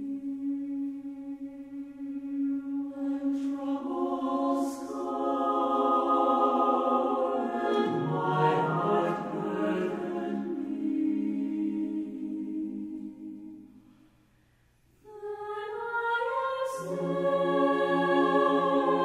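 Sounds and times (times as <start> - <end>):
slow choral music: 0.0 - 19.0.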